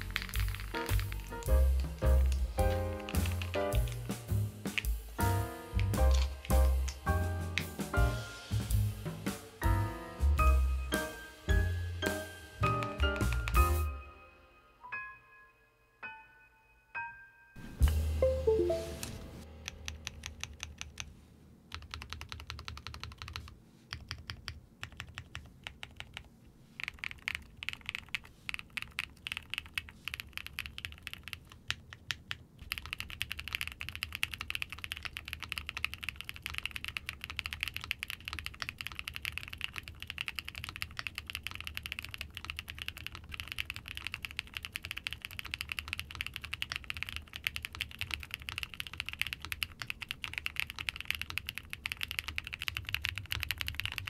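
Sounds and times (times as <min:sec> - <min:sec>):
keyboard typing clacks: 0:00.0 - 0:08.0, 0:12.6 - 0:13.8, 0:19.0 - 0:21.1, 0:21.7 - 0:54.0.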